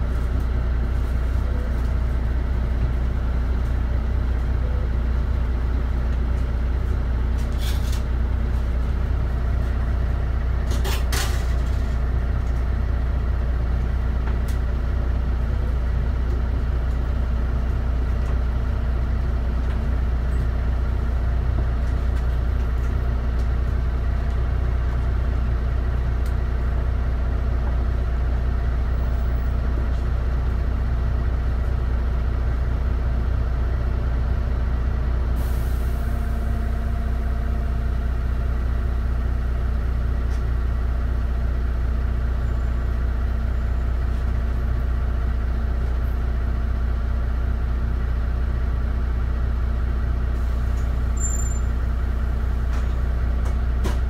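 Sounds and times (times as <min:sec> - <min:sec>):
bus engine humming: 0:00.0 - 0:54.0.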